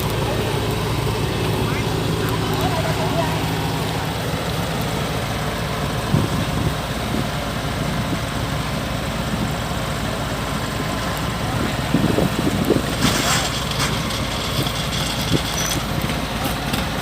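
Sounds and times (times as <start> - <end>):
diesel engine throbbing: 0.0 - 17.0.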